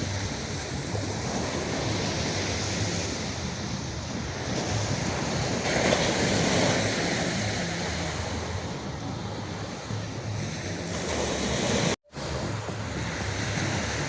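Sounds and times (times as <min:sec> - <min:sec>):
ocean surf washing onto beach: 0:00.0 - 0:14.0
wind rumbling on microphone: 0:00.0 - 0:14.0.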